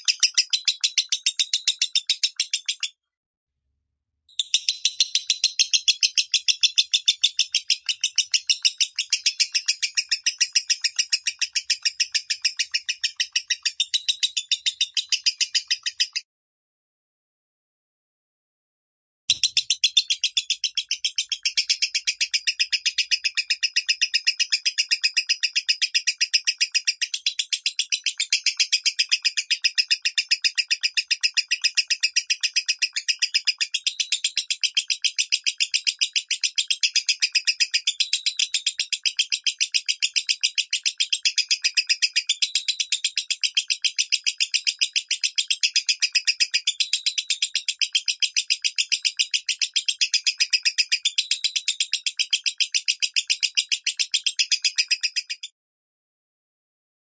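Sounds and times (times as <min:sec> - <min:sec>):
lovebird chattering: 0:00.0 - 0:02.9, 0:04.4 - 0:16.2, 0:19.3 - 0:55.5.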